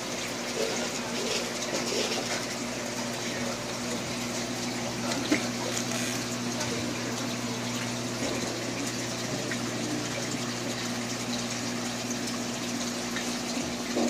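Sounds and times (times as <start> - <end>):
water bubbling and splashing: 0.0 - 14.0
low electric hum: 0.1 - 14.0.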